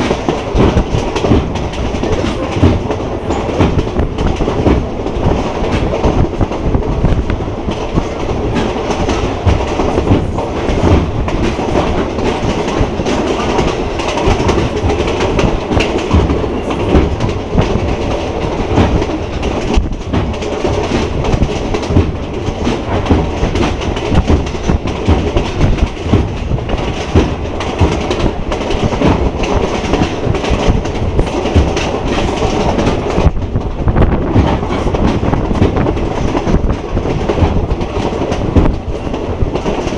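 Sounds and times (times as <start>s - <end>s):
train knocks and clatters: 0.0s - 39.9s
train wheels rumbling on track: 0.0s - 39.9s.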